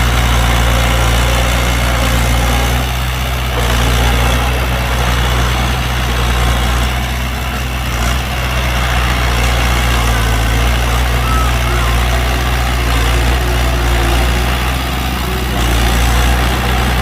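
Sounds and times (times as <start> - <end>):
heavy diesel engine idling: 0.0 - 17.0.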